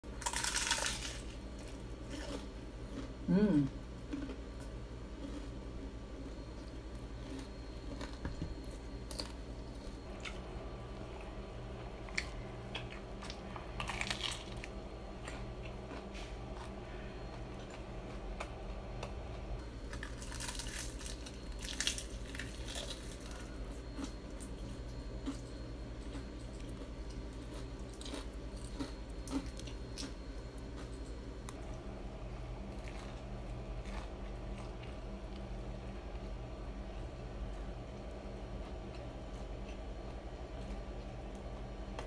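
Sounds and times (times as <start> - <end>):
low steady hum: 0.0 - 42.0
chewing crispy fried chicken: 0.1 - 9.4, 10.0 - 42.0.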